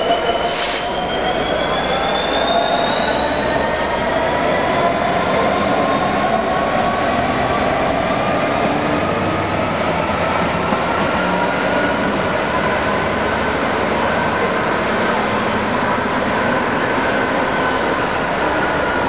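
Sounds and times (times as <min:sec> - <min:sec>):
diesel locomotive engine: 0:00.0 - 0:19.0.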